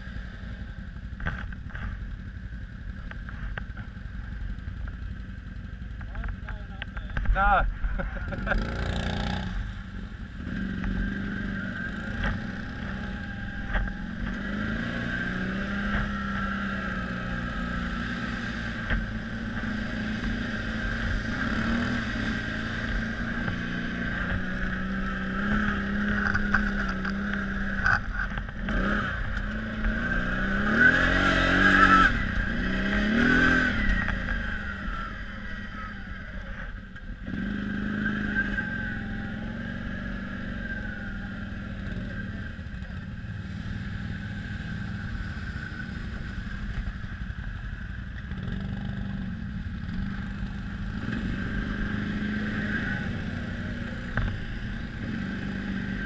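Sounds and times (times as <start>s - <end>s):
quad bike engine revving: 6.0s - 56.0s.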